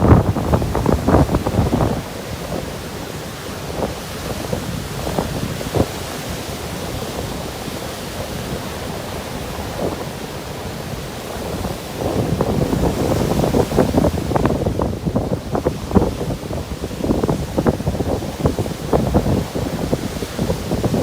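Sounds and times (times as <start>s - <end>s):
ocean surf washing onto beach: 0.0s - 21.0s
wind buffeting microphone: 0.0s - 21.0s.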